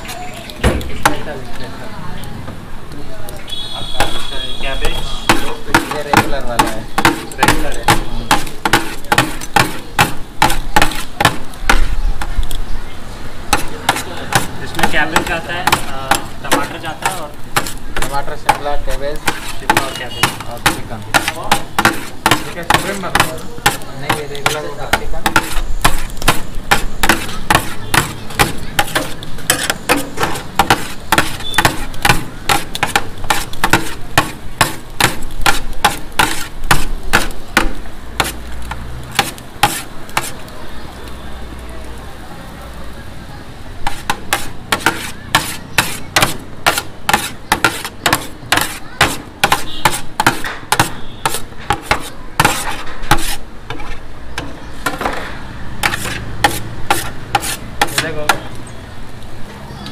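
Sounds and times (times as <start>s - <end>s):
metal spatula chopping on griddle: 0.0s - 1.6s, 3.5s - 12.6s, 13.4s - 40.5s, 43.8s - 58.6s.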